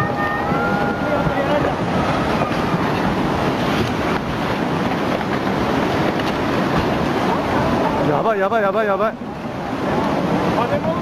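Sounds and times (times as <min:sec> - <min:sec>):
rushing surging water: 0:00.0 - 0:11.0.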